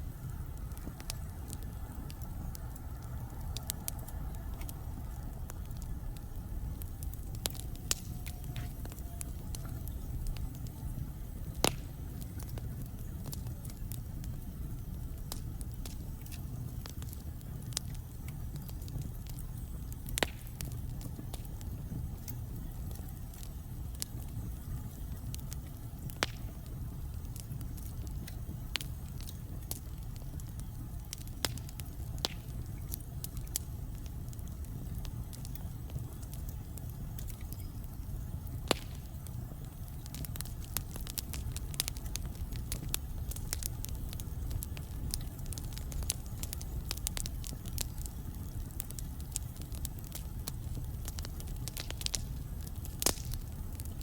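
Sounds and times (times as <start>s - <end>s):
fire crackles and pops: 0.0s - 54.0s
wood fire rumble: 0.0s - 54.0s.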